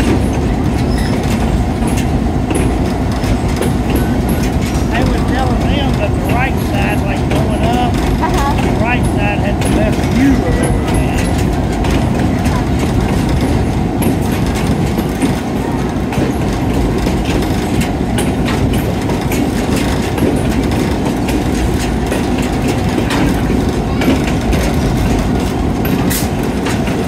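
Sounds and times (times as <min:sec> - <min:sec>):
diesel locomotive engine drone: 0:00.0 - 0:27.0
rumble of rolling train: 0:00.0 - 0:27.0
wheels clicking over rail joints: 0:00.0 - 0:27.0.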